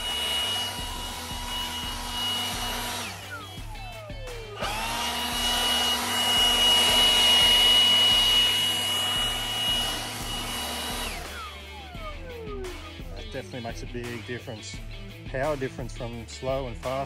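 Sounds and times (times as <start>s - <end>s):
leaf blower whining: 0.0s - 14.2s.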